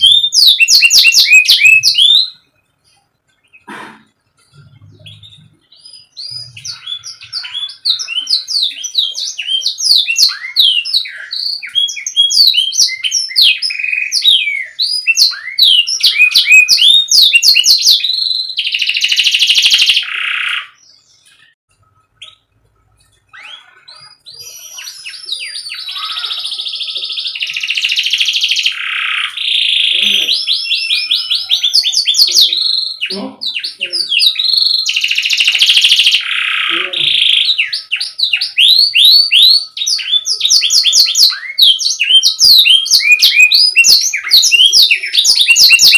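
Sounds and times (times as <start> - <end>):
canary singing: 0.0 - 45.9.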